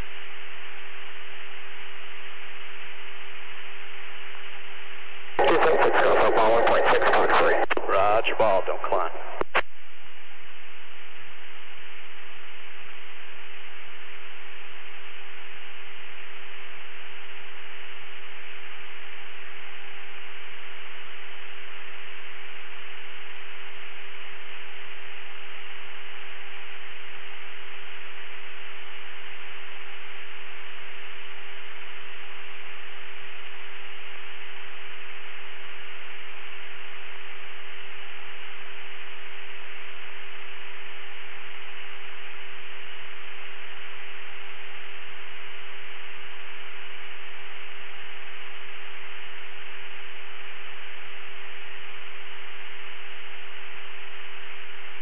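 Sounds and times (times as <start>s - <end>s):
constant low hum: 0.0s - 55.0s
radio static hiss: 0.0s - 55.0s.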